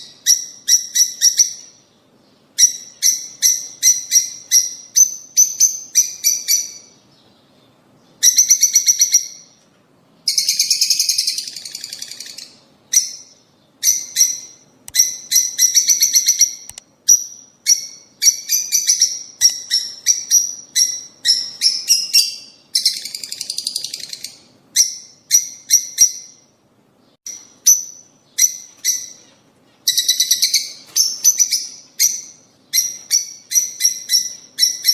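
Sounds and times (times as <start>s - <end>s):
lovebirds chirping: 0.0s - 9.6s, 10.2s - 34.9s.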